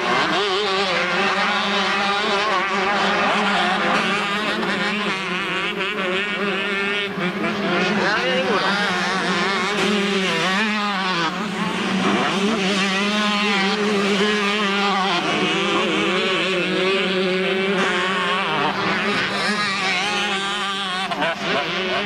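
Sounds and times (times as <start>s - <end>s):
motocross bikes racing: 0.0s - 22.0s.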